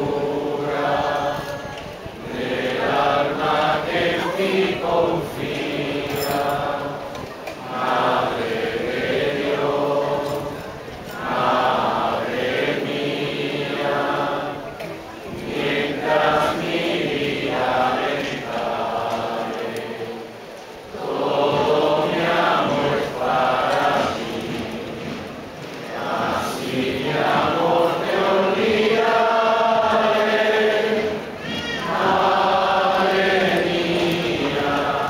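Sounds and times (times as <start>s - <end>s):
unaccompanied voices singing: 0.0s - 35.0s.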